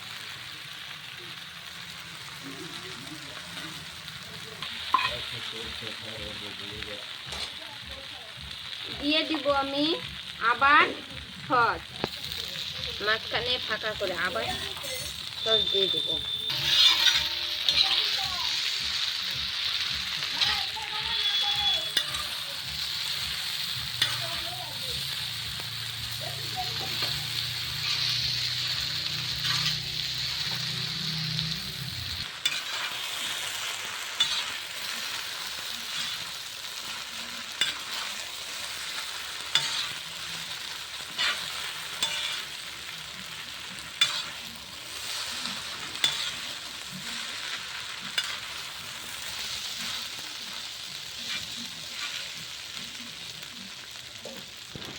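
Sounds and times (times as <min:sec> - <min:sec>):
noodles sizzling in hot oil: 0:00.0 - 0:54.9.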